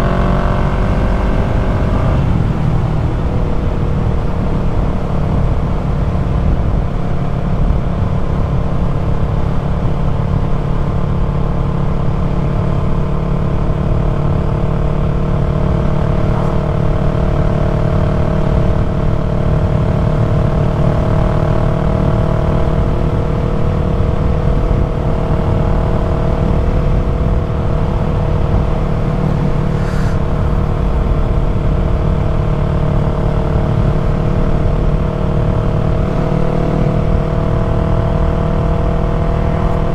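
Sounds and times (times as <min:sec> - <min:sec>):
low rumble: 0:00.0 - 0:39.9
motorcycle engine cruising: 0:00.0 - 0:39.9.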